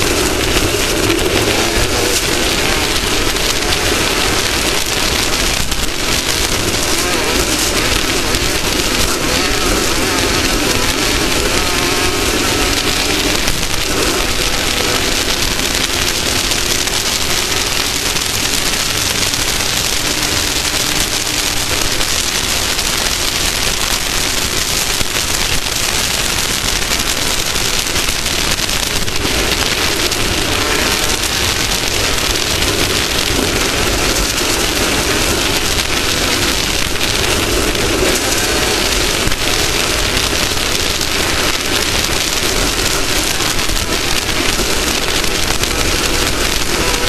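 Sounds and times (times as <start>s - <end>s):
faint engine: 0.0s - 47.0s
rush of wind and terrain noise: 0.0s - 47.0s.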